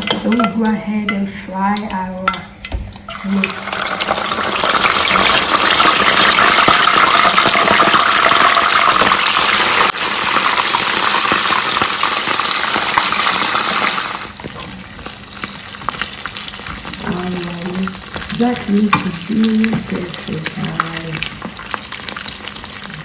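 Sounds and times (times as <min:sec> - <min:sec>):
meat sizzling in hot oil: 0:02.6 - 0:23.0.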